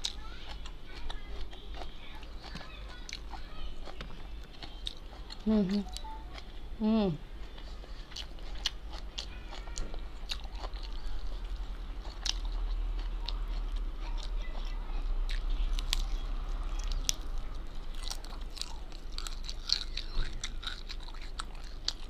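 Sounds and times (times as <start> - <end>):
chewing crispy food: 0.0 - 22.0
steady low hum: 0.0 - 22.0.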